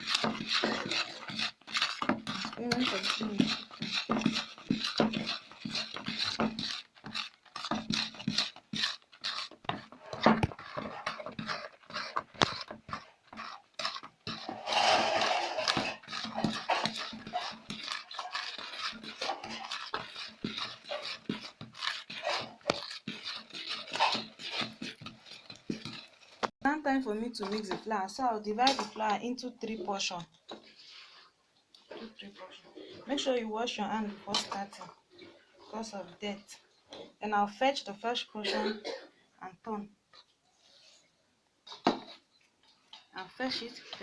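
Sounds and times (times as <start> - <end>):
beating batter in a bowl: 0.0 - 38.7, 41.6 - 44.0.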